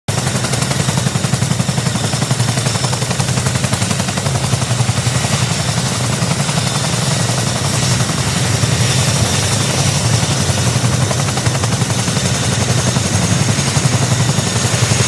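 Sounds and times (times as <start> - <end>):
helicopter rotor blades chopping: 0.1 - 15.0.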